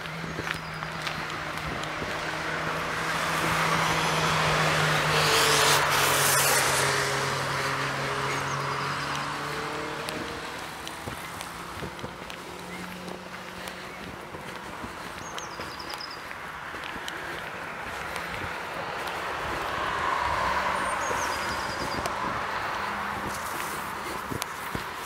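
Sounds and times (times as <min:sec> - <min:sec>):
car passing by: 0:00.2 - 0:25.0.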